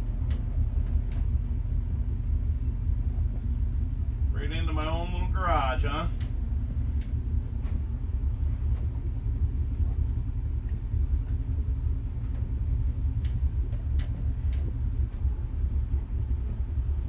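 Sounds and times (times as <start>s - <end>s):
boat engines idling: 0.0s - 17.0s.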